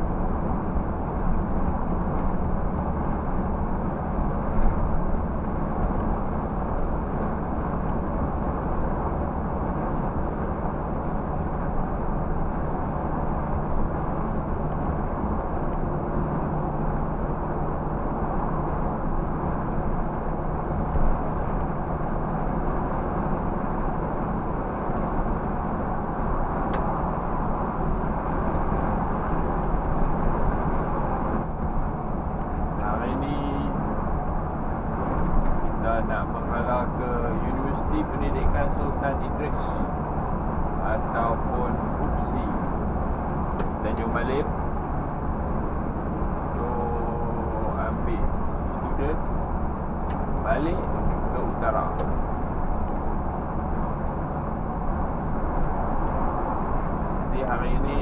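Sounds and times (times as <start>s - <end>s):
bus engine drone: 0.0s - 58.0s
road and tyre noise: 0.0s - 58.0s.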